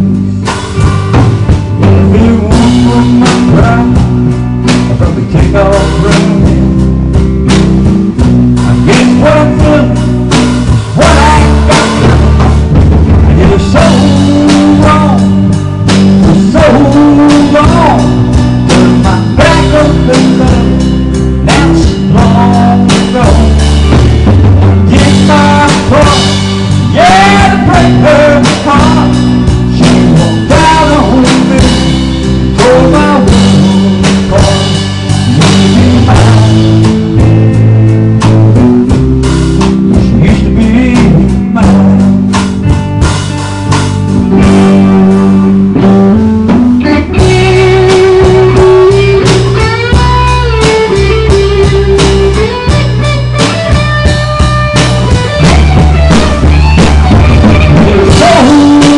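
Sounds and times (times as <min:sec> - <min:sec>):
bass guitar: 0:00.0 - 0:58.9
drum kit steady beat: 0:00.0 - 0:58.9
electric guitar bending notes: 0:00.0 - 0:58.9.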